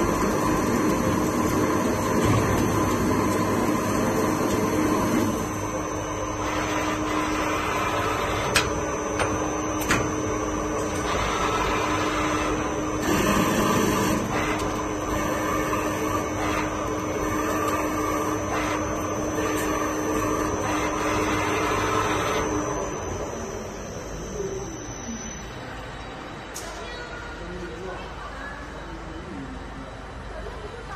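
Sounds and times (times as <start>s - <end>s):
lathe motor hum: 0.0s - 25.3s
lathe whine: 0.0s - 26.4s.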